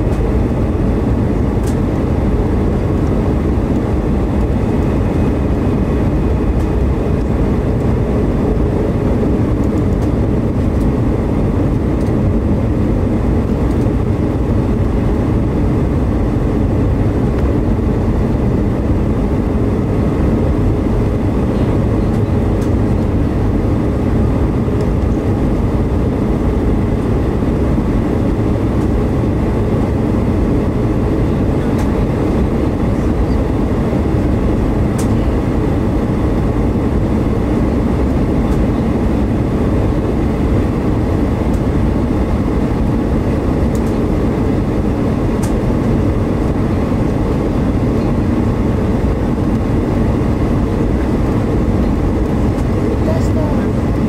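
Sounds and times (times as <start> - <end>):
aircraft cabin engine roar: 0.0 - 54.0.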